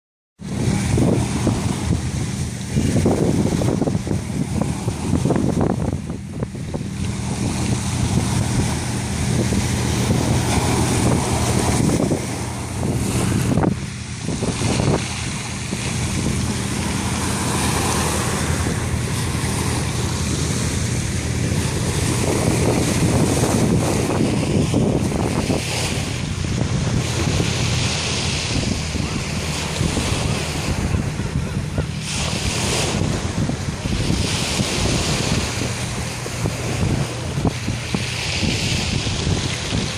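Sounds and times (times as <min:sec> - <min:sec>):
steady low rumble: 0:00.4 - 0:39.9
waves washing onto stony shore: 0:00.4 - 0:39.9
wind buffeting microphone: 0:00.4 - 0:39.9.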